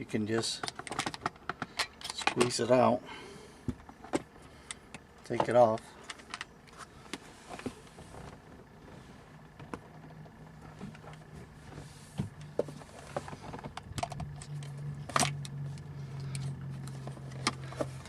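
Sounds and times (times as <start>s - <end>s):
low hum: 0.1s - 18.0s.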